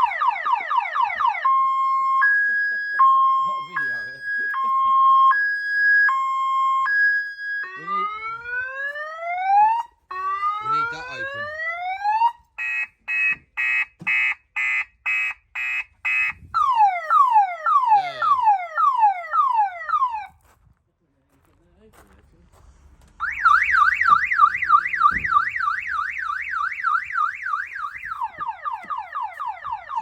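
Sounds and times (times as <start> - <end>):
car alarm siren: 0.0 - 20.4, 23.2 - 30.0.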